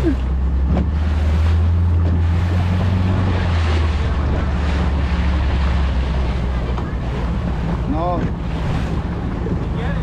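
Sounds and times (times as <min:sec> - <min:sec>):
boat engine droning: 0:00.0 - 0:10.0
water rushing: 0:00.0 - 0:10.0
wind buffeting microphone: 0:00.4 - 0:10.0.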